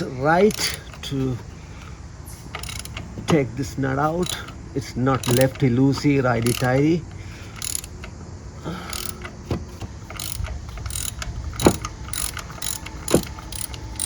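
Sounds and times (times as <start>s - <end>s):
ratchet wrench clicking: 0.0s - 1.5s, 2.3s - 14.0s.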